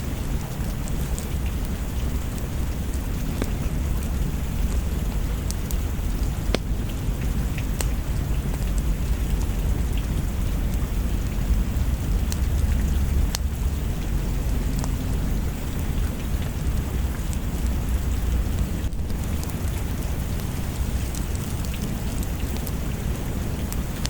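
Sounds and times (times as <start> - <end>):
fire pops and crackles: 0.0 - 24.0
steady rain: 0.0 - 24.0.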